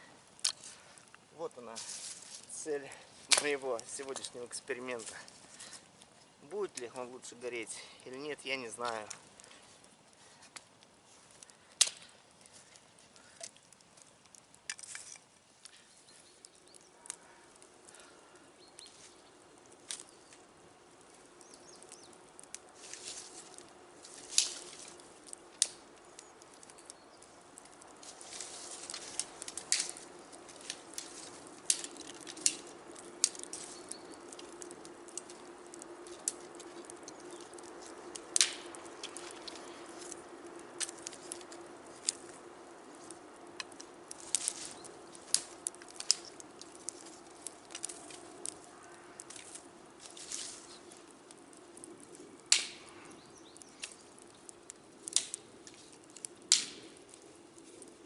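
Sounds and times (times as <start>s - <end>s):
burning wood popping and crackling: 0.0s - 58.0s
soft rushing of fire: 0.0s - 58.0s.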